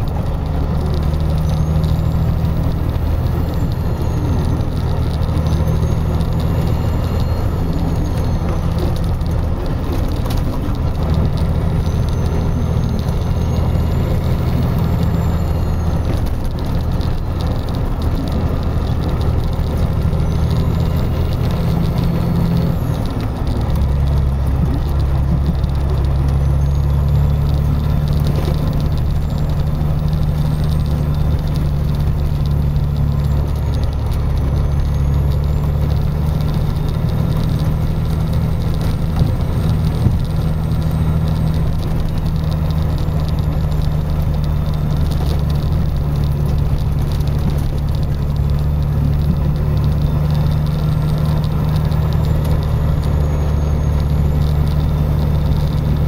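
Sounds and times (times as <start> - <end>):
car driving on snowy road: 0.0 - 56.0.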